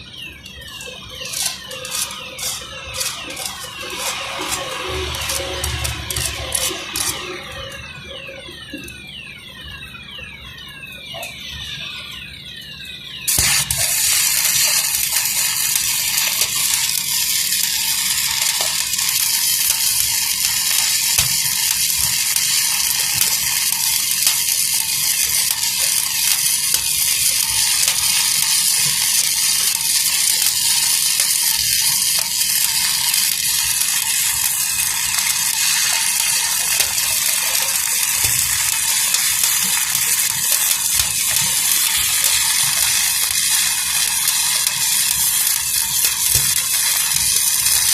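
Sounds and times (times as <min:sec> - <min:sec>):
welding arc hissing and crackling: 0:00.6 - 0:08.9, 0:13.3 - 0:47.9.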